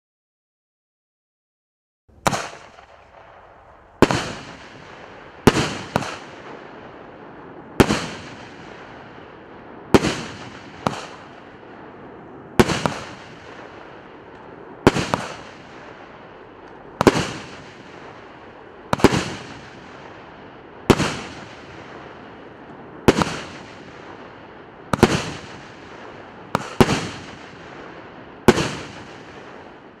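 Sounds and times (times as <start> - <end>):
firework bangs: 2.1 - 30.0.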